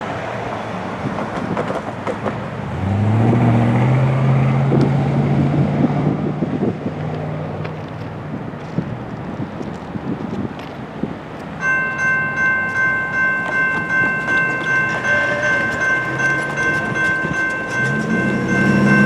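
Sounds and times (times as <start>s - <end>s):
train rumble: 0.0s - 3.6s, 4.3s - 19.0s
diesel locomotive drone: 0.0s - 19.0s
wind: 0.0s - 19.0s.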